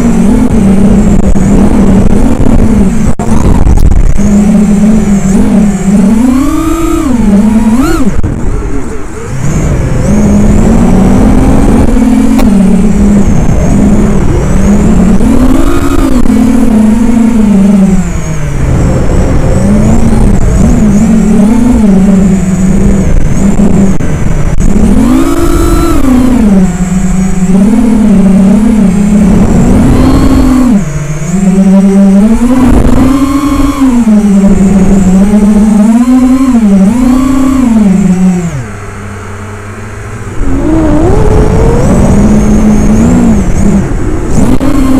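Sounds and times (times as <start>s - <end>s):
quadcopter motors whining: 0.0s - 44.9s.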